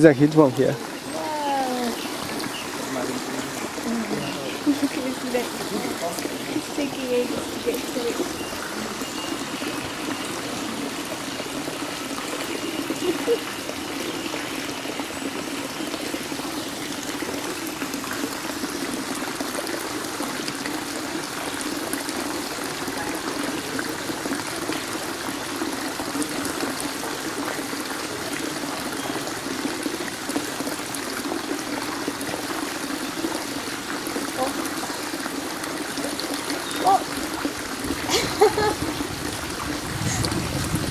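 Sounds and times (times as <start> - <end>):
water pouring into pond: 0.0 - 40.9.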